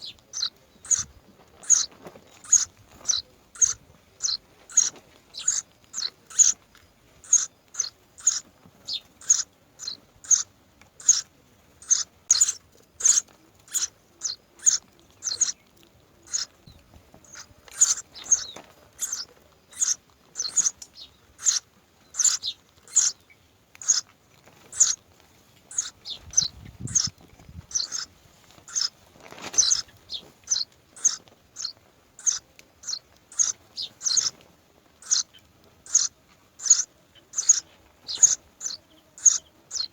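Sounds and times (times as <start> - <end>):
myna birds chirping: 0.0 - 39.9.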